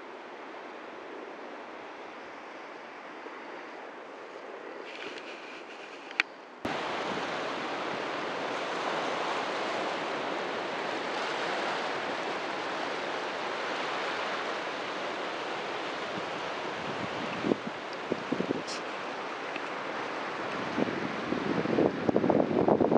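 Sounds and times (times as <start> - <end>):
rushing water: 0.0 - 22.9.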